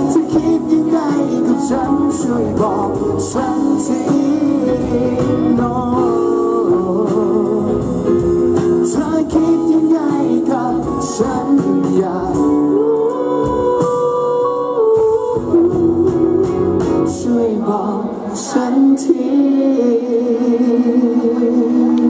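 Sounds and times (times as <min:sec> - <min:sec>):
instrumental accompaniment: 0:00.0 - 0:22.0
man singing into microphone: 0:00.0 - 0:22.0.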